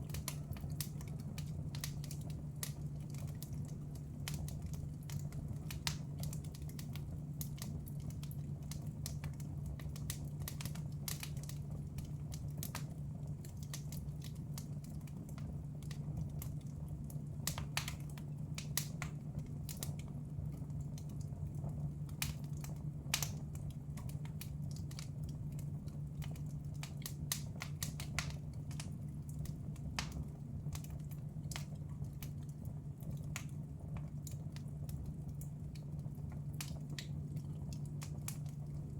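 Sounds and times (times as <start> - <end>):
sharp pops and snaps: 0.0 - 38.8
wood fire crackling: 0.0 - 38.9.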